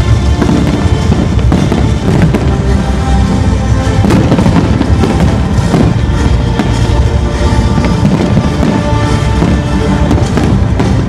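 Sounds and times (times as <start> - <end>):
fireworks bangs and crackles: 0.0 - 11.0
loud music playing: 0.0 - 11.0.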